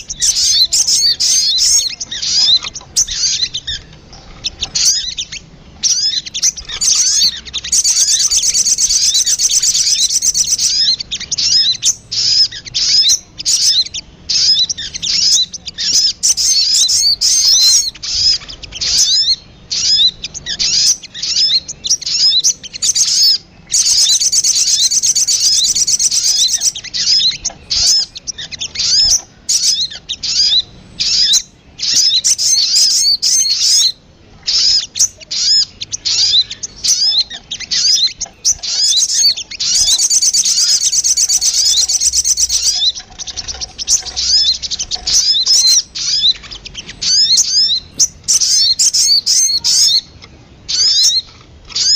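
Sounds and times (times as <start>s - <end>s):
bird chirps and trilling: 0.0s - 51.9s.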